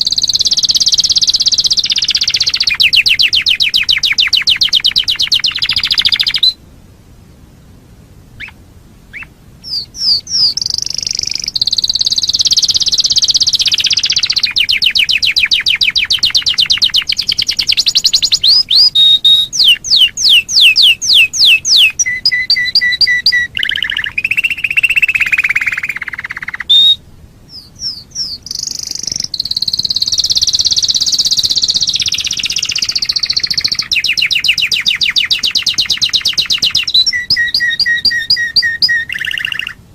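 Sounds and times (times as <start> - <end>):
canary singing trills: 0.0 - 6.6, 8.4 - 39.8.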